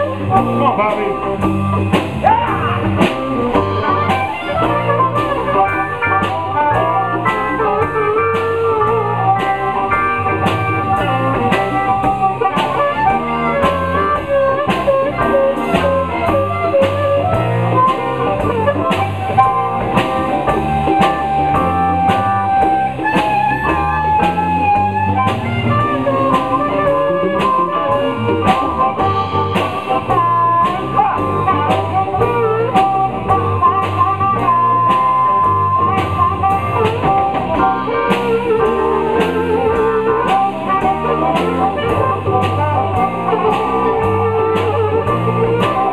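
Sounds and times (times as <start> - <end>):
blues band playing: 0.0 - 45.9
drum kit beat: 0.0 - 45.9
wavering lead melody notes: 0.0 - 45.9.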